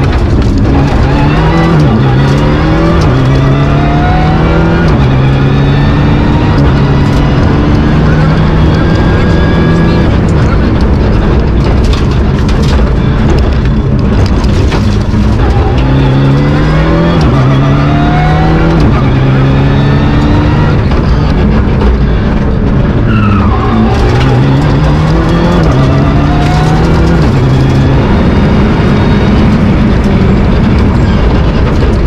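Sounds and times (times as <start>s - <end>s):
rally car engine at full throttle: 0.0s - 32.0s
tyre and road noise: 0.0s - 32.0s.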